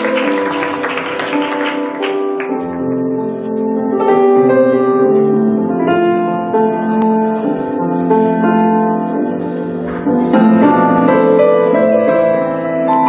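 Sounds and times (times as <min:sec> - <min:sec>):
keyboard: 0:00.0 - 0:13.0.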